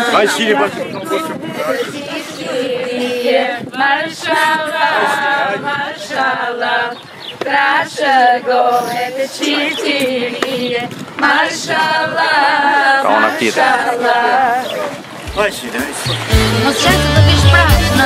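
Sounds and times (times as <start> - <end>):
group singing unaccompanied: 0.0 - 18.0.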